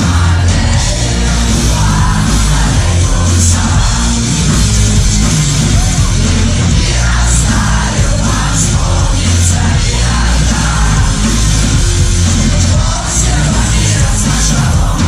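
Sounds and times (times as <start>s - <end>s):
heavy bass: 0.0s - 15.0s
live rock band playing: 0.0s - 15.0s
person singing: 0.0s - 15.0s.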